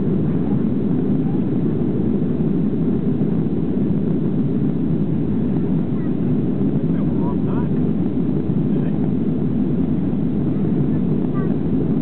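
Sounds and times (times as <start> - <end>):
airliner cabin jet noise: 0.0 - 12.0.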